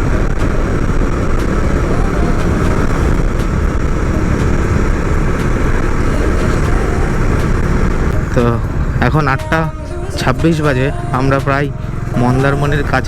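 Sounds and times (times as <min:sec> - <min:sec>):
motorcycle running: 0:00.0 - 0:13.0
wind rushing over microphone: 0:00.0 - 0:13.0.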